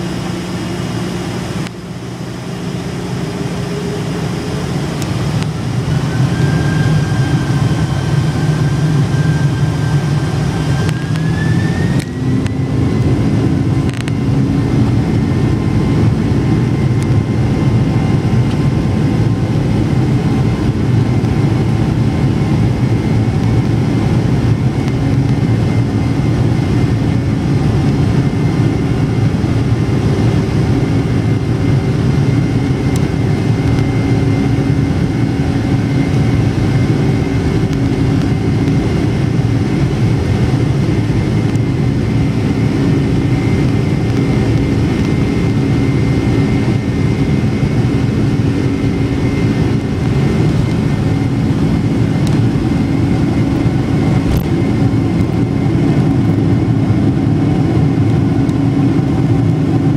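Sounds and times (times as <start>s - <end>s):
jet engines rumbling from cabin: 0.0s - 59.9s
thin fan whine: 0.0s - 59.9s.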